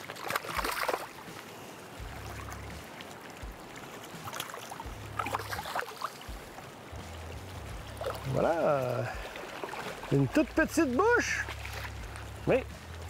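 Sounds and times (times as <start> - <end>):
fish splashing: 0.0 - 13.0
river water running: 0.0 - 13.0.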